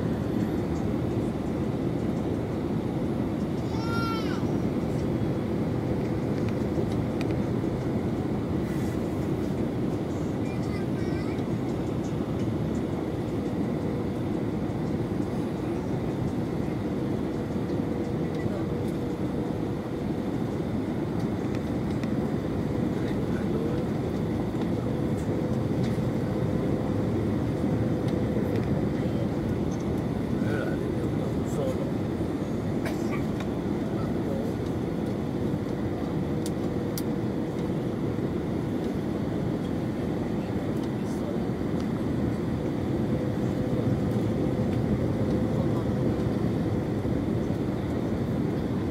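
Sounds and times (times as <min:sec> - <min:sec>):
aircraft cabin rumble: 0:00.0 - 0:48.9.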